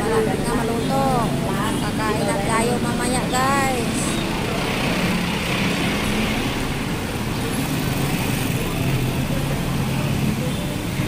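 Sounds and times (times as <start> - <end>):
street traffic: 0.0 - 11.0
vehicle engines passing close: 0.0 - 11.0.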